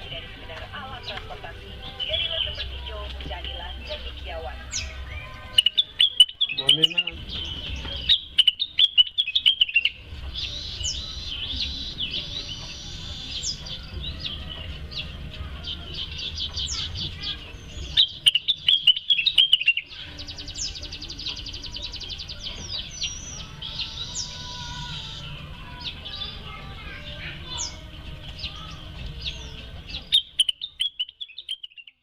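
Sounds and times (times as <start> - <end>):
songbird chirping and whistling: 0.0 - 32.0.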